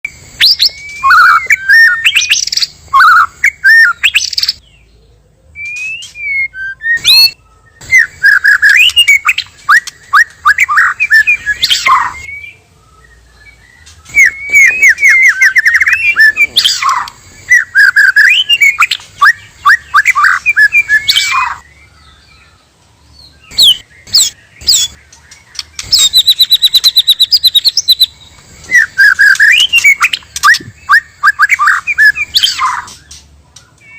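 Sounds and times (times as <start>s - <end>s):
bird singing whistled phrases: 0.4s - 4.9s, 5.5s - 22.3s, 23.2s - 33.2s.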